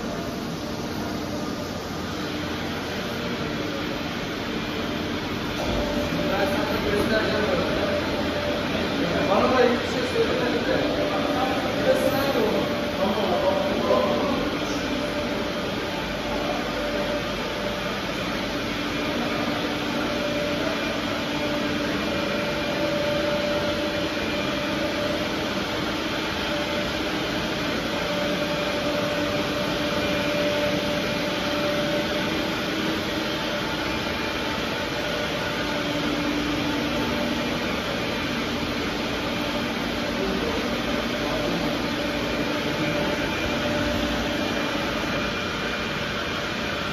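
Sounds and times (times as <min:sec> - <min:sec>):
industrial machinery whirring: 0:00.0 - 0:46.9.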